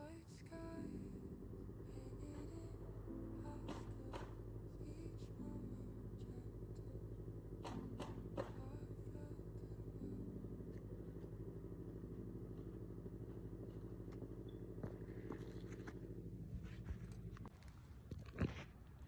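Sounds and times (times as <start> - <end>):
motorcycle engine hum: 0.0 - 19.0.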